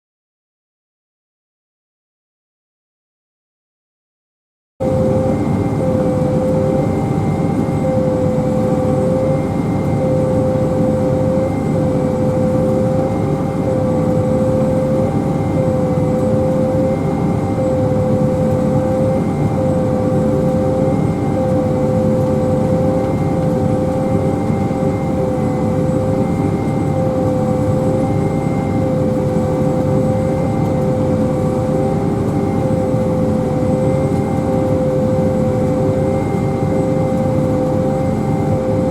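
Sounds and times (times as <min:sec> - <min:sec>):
heavy machine drone with whine: 0:04.8 - 0:38.9.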